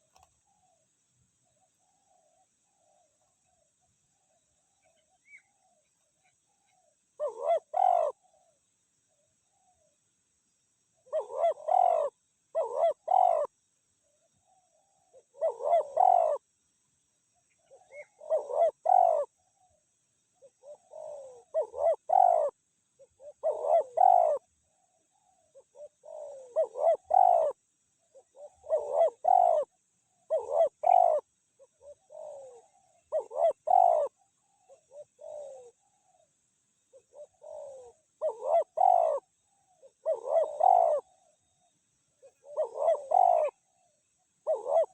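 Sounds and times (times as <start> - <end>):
doves cooing: 1.5 - 8.6, 11.0 - 13.5, 14.2 - 16.4, 17.5 - 19.8, 20.4 - 44.9.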